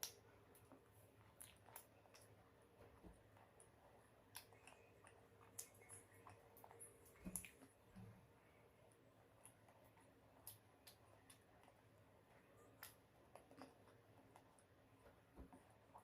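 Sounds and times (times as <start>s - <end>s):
chewing and mouth clicks: 0.0s - 7.8s, 9.4s - 16.0s.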